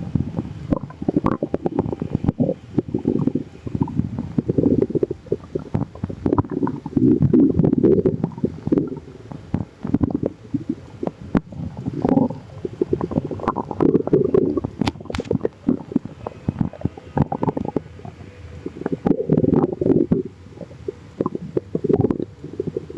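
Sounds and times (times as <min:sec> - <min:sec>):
stomach growling: 0:00.0 - 0:22.9.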